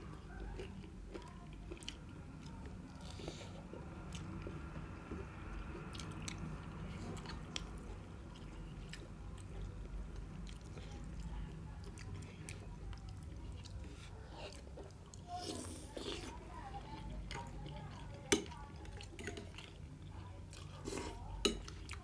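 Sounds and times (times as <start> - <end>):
person chewing food: 0.1 - 22.0.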